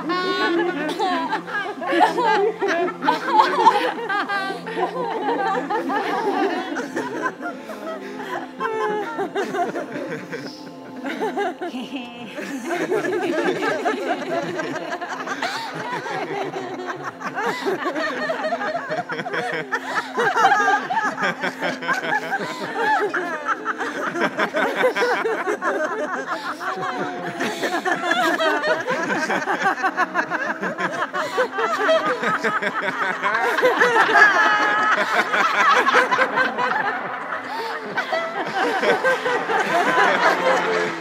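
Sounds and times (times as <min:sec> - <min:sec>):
group of people laughing: 0:00.0 - 0:41.0.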